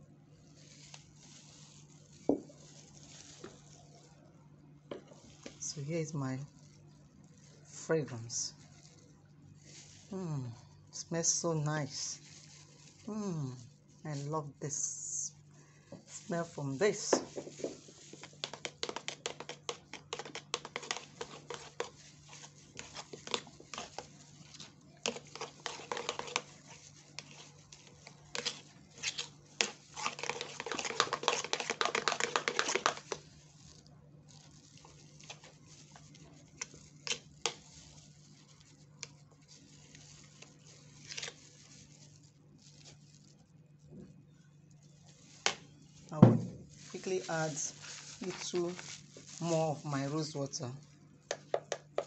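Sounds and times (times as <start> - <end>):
spoon stirring thick lotion: 0.5 - 10.6, 11.2 - 15.2, 15.9 - 46.1, 46.8 - 52.0.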